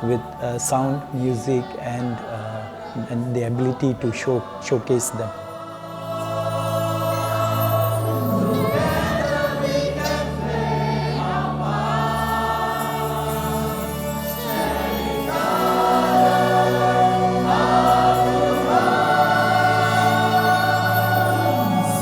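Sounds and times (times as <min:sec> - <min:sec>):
choir-like singing held chords: 0:00.0 - 0:22.0.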